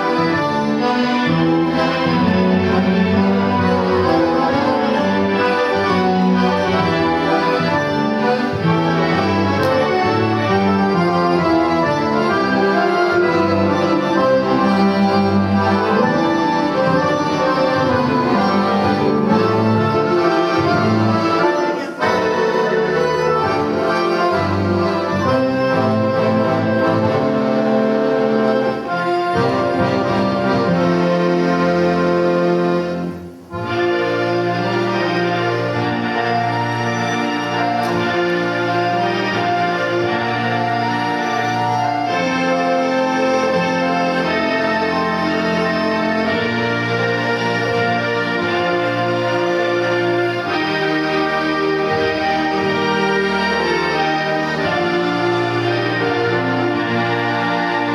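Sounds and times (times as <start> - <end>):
accordion orchestra playing: 0.0 - 57.9.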